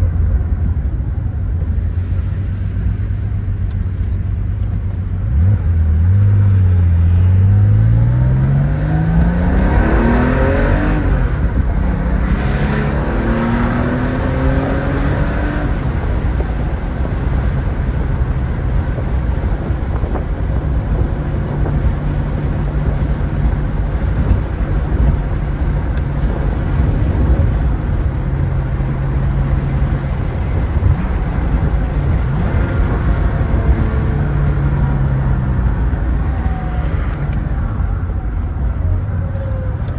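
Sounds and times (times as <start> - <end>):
car engine accelerating: 0.0 - 39.9
tyre noise: 0.0 - 39.9
wind noise: 0.0 - 39.9.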